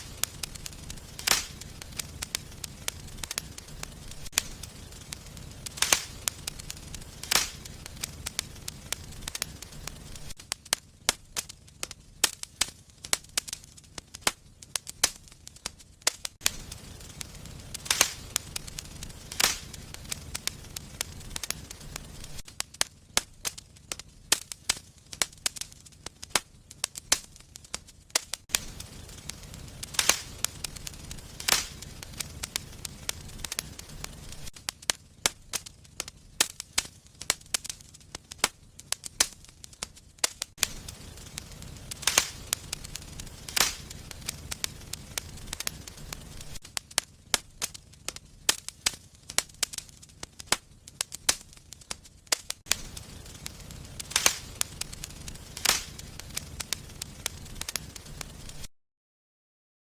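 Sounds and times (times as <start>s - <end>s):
low rumble of flames: 0.0s - 58.7s
wood fire crackling and popping: 0.0s - 58.7s.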